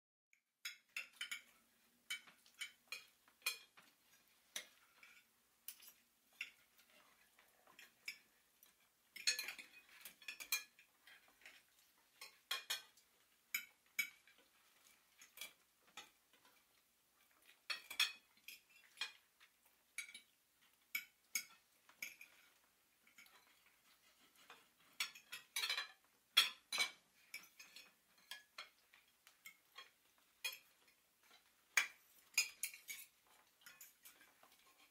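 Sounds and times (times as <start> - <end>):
cutlery and dishes clinking: 0.6 - 34.9.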